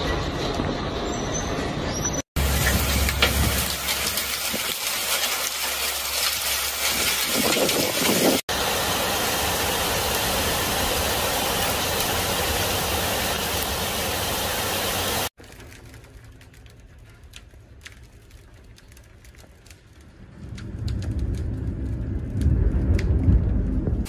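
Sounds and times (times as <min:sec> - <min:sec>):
hailstones tapping: 0:02.4 - 0:08.7, 0:09.6 - 0:24.0
hail and rain pouring: 0:02.4 - 0:24.0.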